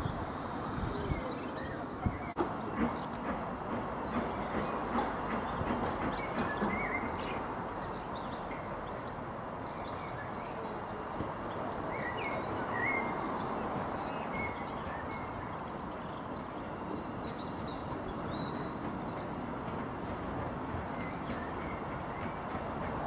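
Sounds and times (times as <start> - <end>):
birds chirping: 0.0 - 23.0
steam locomotive rolling slowly: 0.0 - 23.0.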